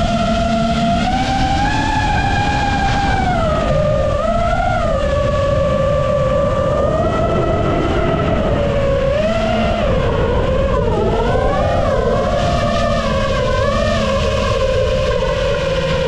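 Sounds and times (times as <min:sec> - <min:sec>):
drone motors and propellers whining: 0:00.0 - 0:16.0
low rumbling noise: 0:00.0 - 0:16.0.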